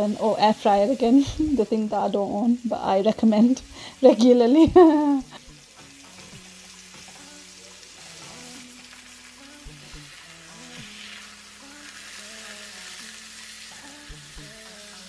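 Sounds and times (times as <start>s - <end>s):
chicken sizzling in a griddle pan: 0.0s - 15.0s.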